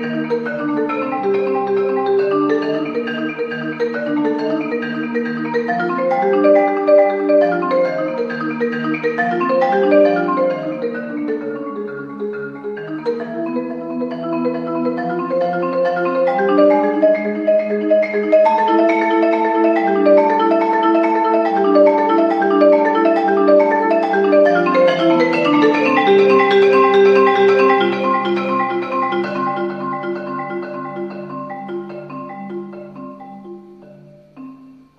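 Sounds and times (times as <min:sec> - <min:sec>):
solo marimba: 0:00.0 - 0:34.9.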